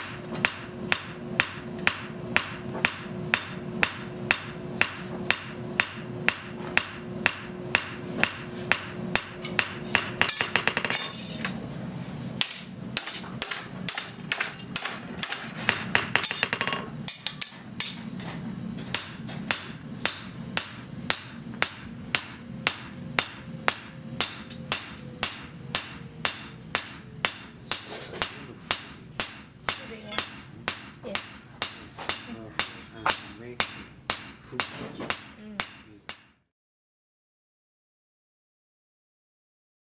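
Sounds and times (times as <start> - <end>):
hammer ringing on hot steel: 0.0 - 11.4, 12.4 - 18.0, 18.9 - 36.4.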